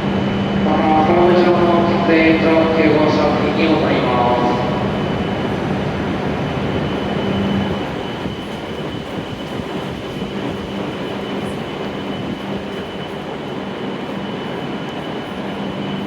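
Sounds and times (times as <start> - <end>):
stopped train humming: 0.0 - 16.0.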